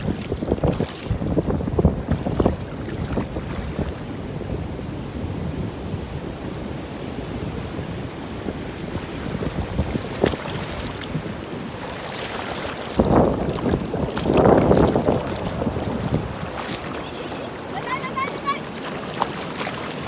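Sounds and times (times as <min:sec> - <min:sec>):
shallow surf washing: 0:00.0 - 0:20.0
wind rumbling on microphone: 0:00.0 - 0:20.0.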